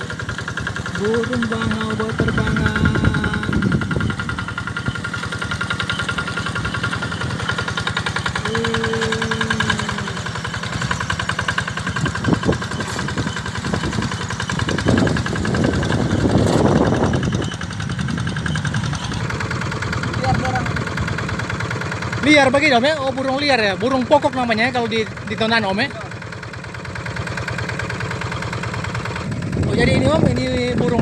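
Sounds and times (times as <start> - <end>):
engine running with knock: 0.0 - 31.0.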